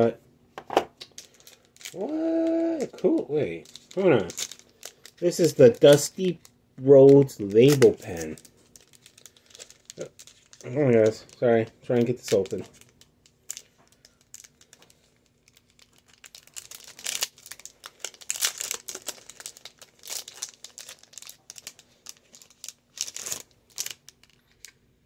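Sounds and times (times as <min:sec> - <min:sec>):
plastic packaging crinkling: 0:01.0 - 0:24.9.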